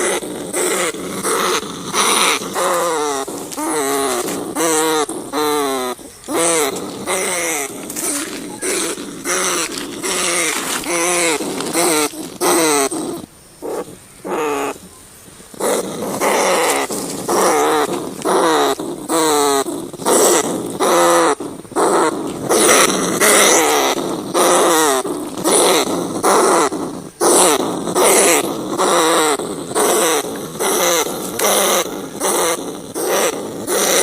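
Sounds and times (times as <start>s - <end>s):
rats crying: 0.0s - 34.0s.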